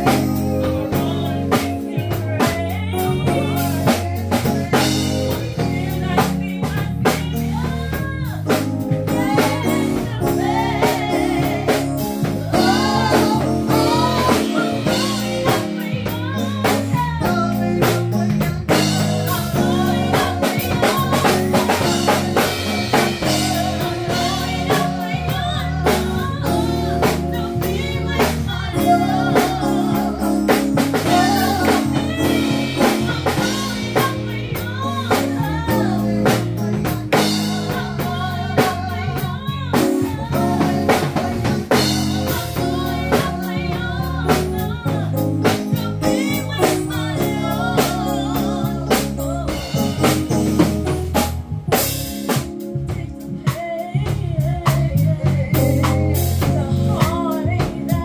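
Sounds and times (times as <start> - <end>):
women singing: 0.0 - 50.4, 52.7 - 58.0
keyboard playing: 0.0 - 58.0.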